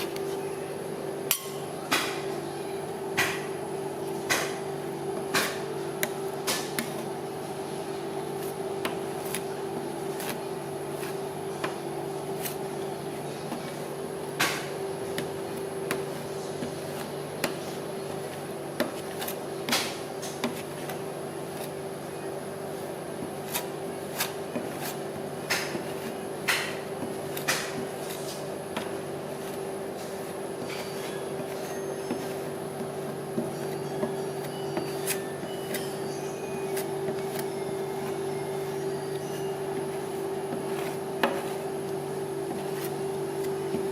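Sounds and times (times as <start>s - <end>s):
steady machine hum: 0.0s - 43.9s.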